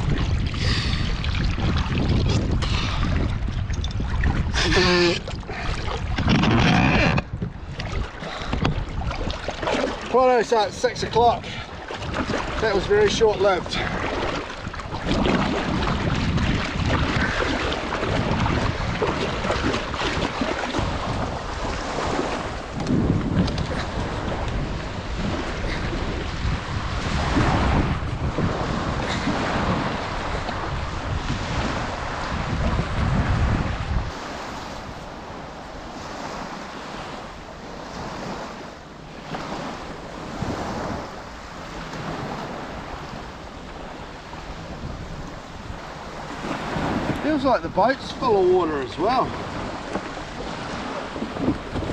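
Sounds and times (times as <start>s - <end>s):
water sloshing: 0.0s - 32.8s, 34.1s - 51.9s
small waves breaking: 0.0s - 51.9s
wind buffeting microphone: 0.0s - 51.9s.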